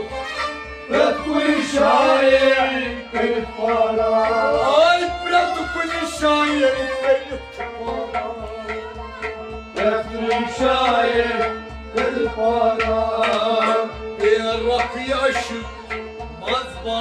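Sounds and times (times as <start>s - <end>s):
bowed sarangi: 0.0s - 17.0s
harmonium: 0.0s - 17.0s.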